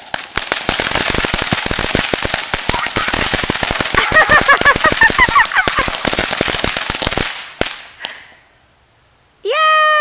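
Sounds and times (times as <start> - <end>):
firework pops: 0.0 - 8.3
firework crackling: 0.0 - 8.4.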